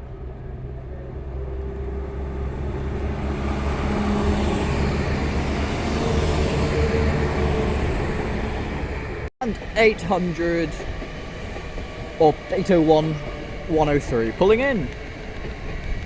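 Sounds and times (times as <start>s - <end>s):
passenger train humming and rumbling: 0.0s - 16.0s.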